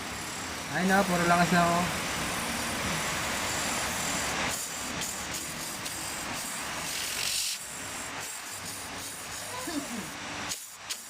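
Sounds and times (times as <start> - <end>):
pressurized gas hissing: 0.0 - 11.0.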